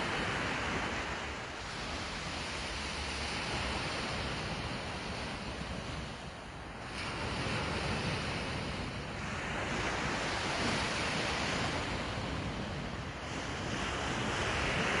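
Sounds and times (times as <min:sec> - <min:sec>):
sea waves washing in: 0:00.0 - 0:15.0
wind rumbling on microphone: 0:00.0 - 0:15.0.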